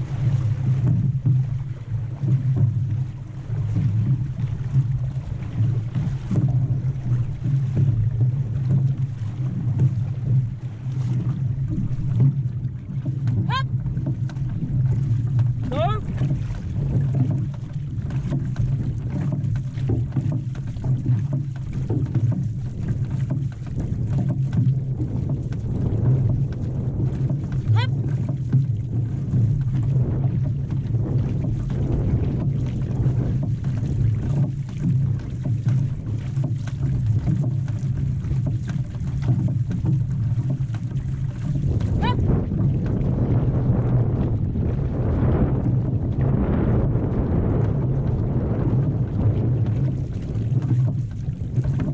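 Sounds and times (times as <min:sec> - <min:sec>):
water splashing along canoe hull: 0:00.0 - 0:51.9
wind on microphone: 0:00.0 - 0:51.9.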